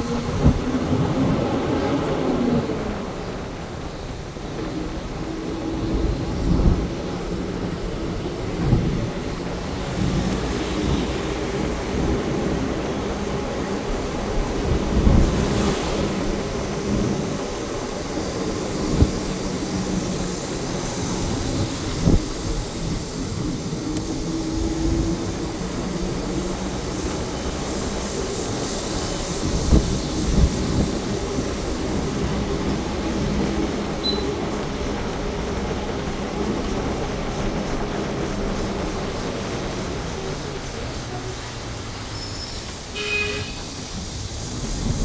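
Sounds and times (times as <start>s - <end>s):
bus engine hum: 0.0s - 45.0s
road noise: 0.0s - 45.0s.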